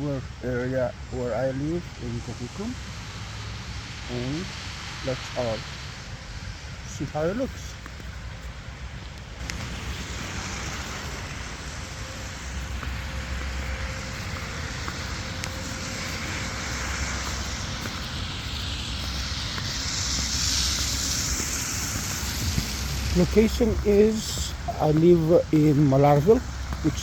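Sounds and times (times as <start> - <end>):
snow hiss: 0.0 - 27.0
wind rumble on microphone: 0.2 - 27.0.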